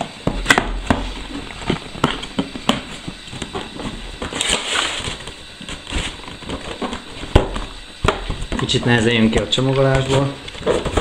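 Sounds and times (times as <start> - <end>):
cardboard scraping rustle: 1.0 - 7.7, 8.4 - 11.0.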